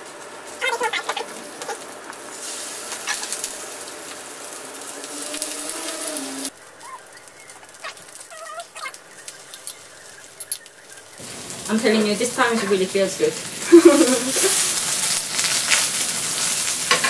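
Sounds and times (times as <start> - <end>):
batter sizzling in a frying pan: 0.0 - 17.0.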